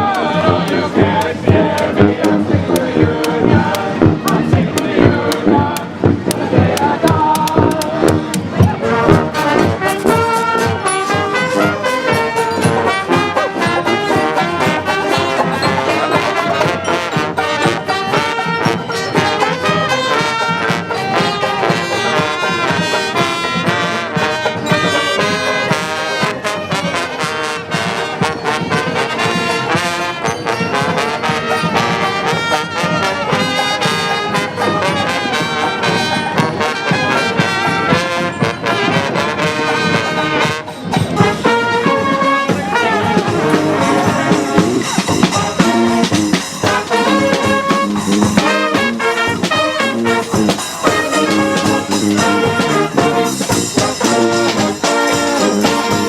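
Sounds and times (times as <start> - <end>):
percussion: 0.0 - 56.0
trombones: 0.0 - 56.0
trumpets: 0.0 - 56.0.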